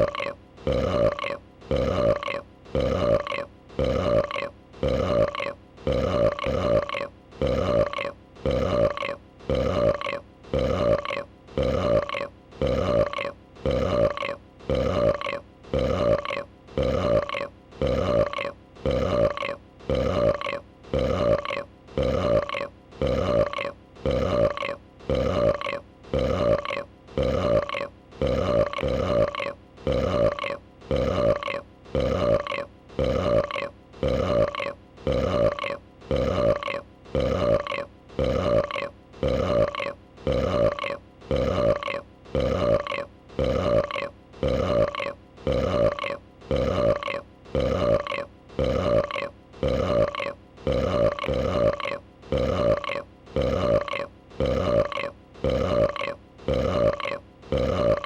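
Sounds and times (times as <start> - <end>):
throaty creature burp: 0.0 - 58.0.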